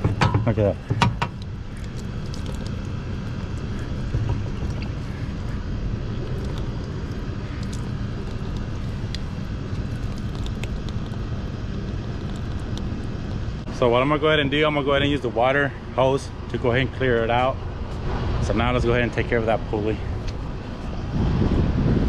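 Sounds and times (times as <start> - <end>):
low mechanical drone: 0.0 - 22.0.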